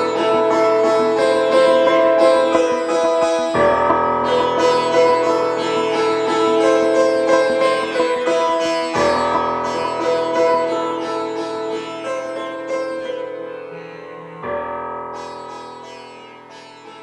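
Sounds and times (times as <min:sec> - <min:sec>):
plucked string instrument music: 0:00.0 - 0:17.0.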